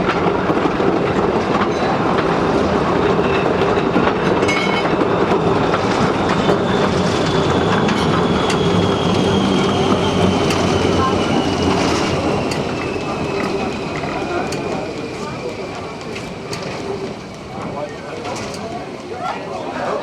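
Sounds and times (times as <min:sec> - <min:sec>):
train rolling along track: 0:00.0 - 0:20.0.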